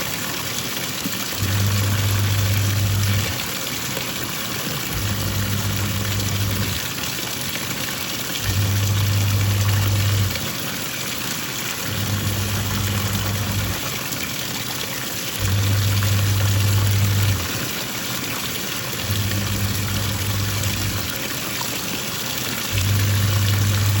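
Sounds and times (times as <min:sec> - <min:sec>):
washing machine motor humming: 0:00.0 - 0:24.0
water churning and sloshing: 0:00.0 - 0:24.0.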